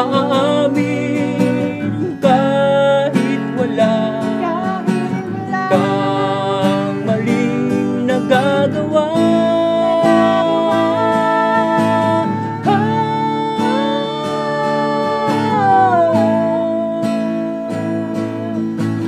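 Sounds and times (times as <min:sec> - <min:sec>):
men singing together: 0:00.0 - 0:18.8
acoustic guitars strummed: 0:00.0 - 0:19.0.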